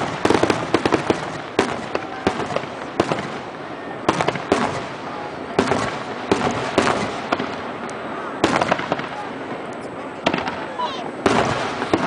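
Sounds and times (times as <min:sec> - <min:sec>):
firework shells bursting: 0:00.0 - 0:12.0
fireworks crackling: 0:00.0 - 0:12.0.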